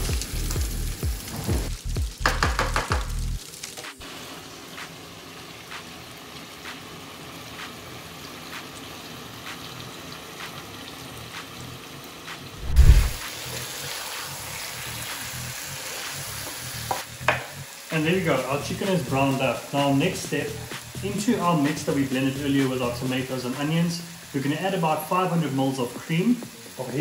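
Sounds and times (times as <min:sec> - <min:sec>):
chicken sizzling in a frying pan: 0:00.0 - 0:12.6, 0:13.2 - 0:27.0.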